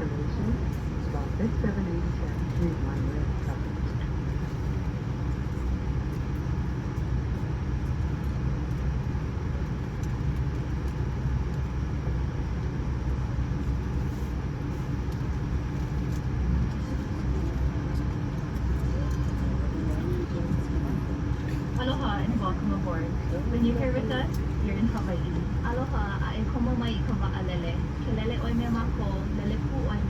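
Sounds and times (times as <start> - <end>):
airliner cabin rumble and hum: 0.0 - 30.0.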